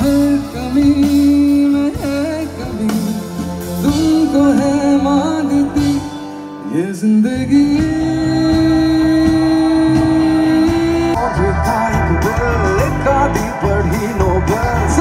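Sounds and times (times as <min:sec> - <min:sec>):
drums: 0:00.0 - 0:15.0
live band playing pop song: 0:00.0 - 0:15.0
man singing: 0:00.0 - 0:15.0.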